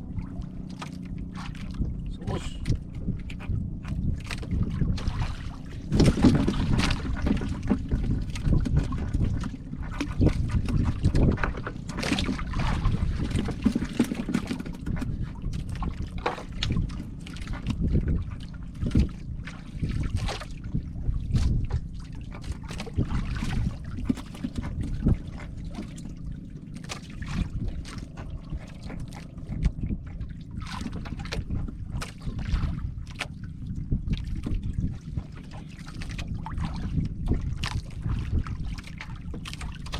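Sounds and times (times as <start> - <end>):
water sloshing and splashing: 0.0 - 39.9
wind rumbling on microphone: 0.0 - 39.9.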